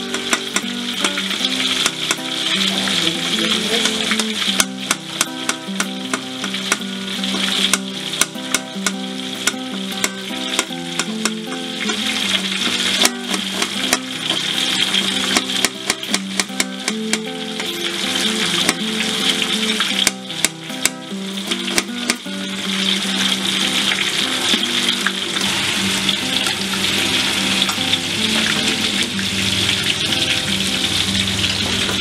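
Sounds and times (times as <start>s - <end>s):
food sizzling in hot oil: 0.0s - 32.0s
oil popping: 0.0s - 32.0s.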